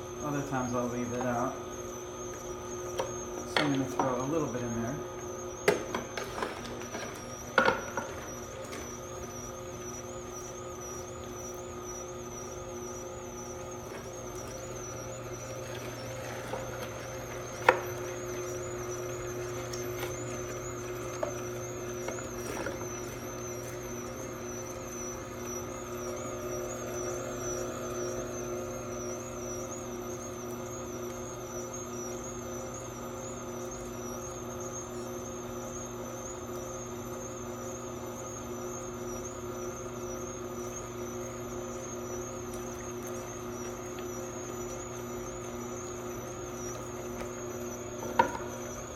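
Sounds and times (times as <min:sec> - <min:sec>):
electric juicer whining: 0:00.0 - 0:48.9.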